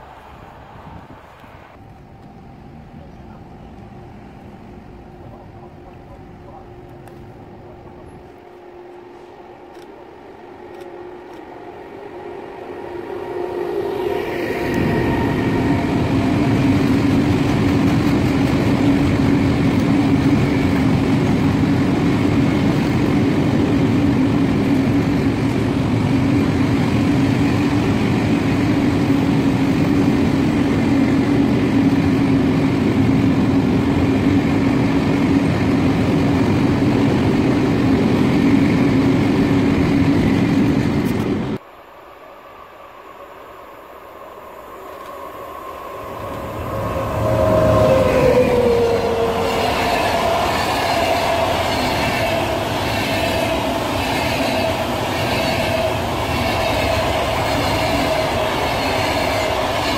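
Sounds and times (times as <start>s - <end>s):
constant train hum: 0.0s - 59.9s
freight train rumbling past: 0.0s - 59.9s.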